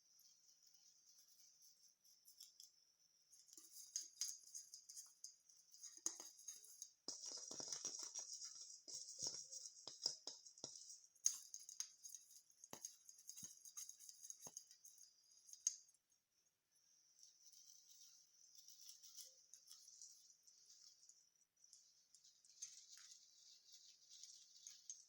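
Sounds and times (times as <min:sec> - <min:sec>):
small crackles and snaps: 0:03.4 - 0:16.0, 0:17.2 - 0:25.0.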